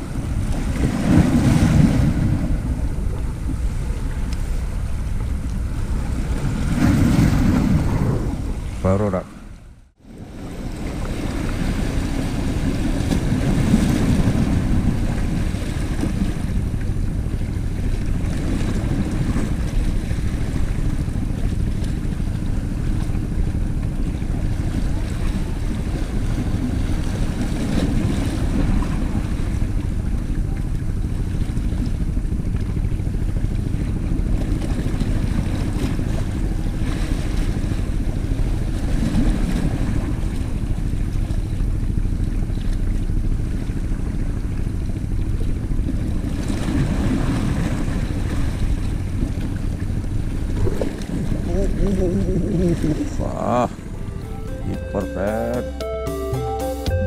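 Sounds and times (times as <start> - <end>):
waves washing against rocks: 0.0 - 9.2, 10.1 - 42.2, 43.2 - 53.9
wind on microphone: 0.0 - 54.8.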